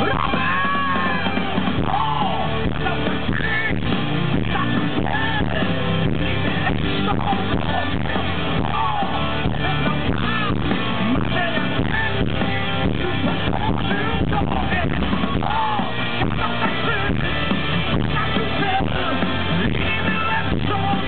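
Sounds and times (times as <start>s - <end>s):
bass guitar: 0.0s - 21.0s
drums: 0.0s - 21.0s
electric guitars: 0.0s - 21.0s
man singing: 0.0s - 21.0s.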